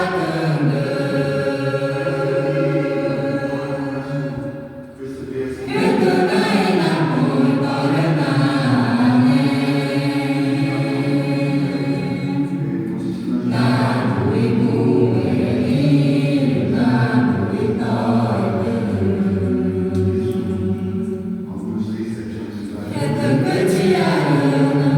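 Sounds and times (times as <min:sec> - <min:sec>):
group chanting long held notes: 0:00.0 - 0:24.9.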